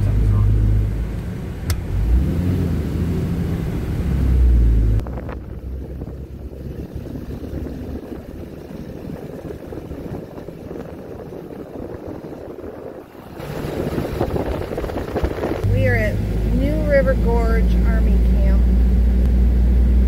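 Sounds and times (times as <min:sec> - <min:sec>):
engine and road rumble: 0:00.0 - 0:20.0
wind and tyre noise: 0:00.0 - 0:20.0.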